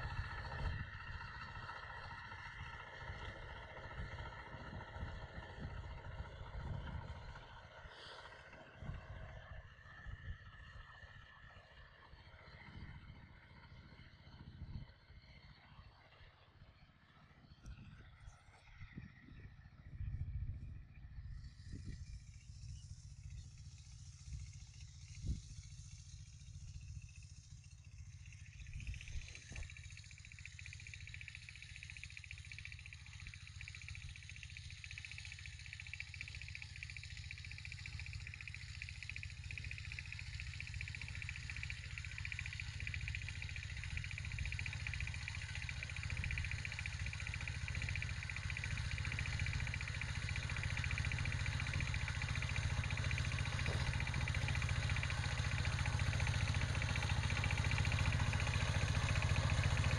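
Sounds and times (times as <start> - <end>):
diesel tiller engine running: 0.0 - 59.9.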